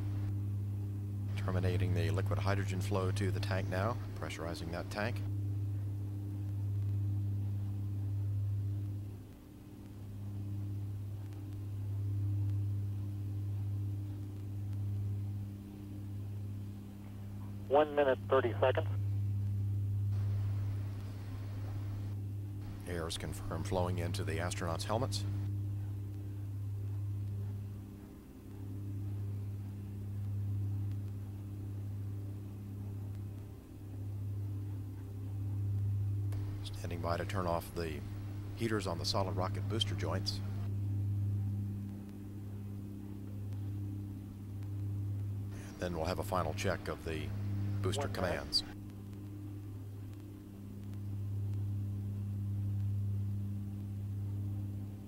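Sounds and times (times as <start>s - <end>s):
faint high steady tones: 0.0s - 55.0s
steady low hum: 0.0s - 55.0s.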